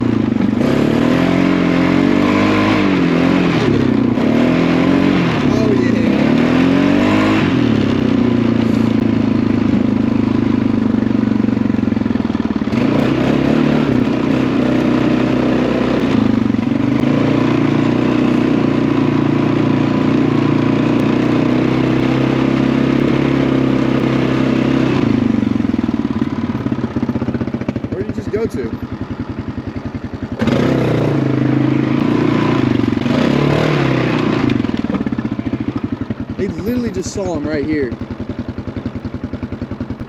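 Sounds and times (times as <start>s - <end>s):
off-road vehicle engine running: 0.0s - 40.0s.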